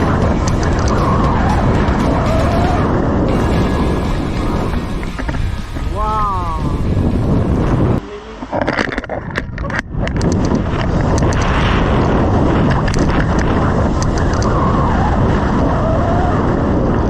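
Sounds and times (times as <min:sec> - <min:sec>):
wind buffeting microphone: 0:00.0 - 0:08.0, 0:08.6 - 0:17.0.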